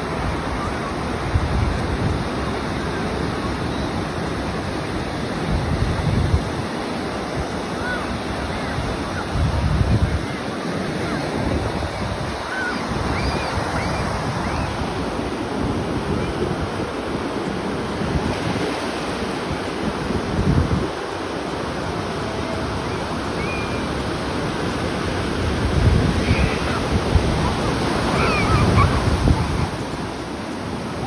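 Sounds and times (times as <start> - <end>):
wind rumbling on microphone: 0.0 - 21.3, 24.5 - 31.0
surf breaking on beach: 0.0 - 31.0.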